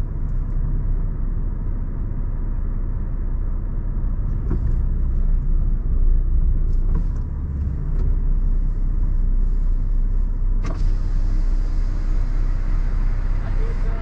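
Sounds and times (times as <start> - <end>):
diesel engine low rumble: 0.0 - 14.0.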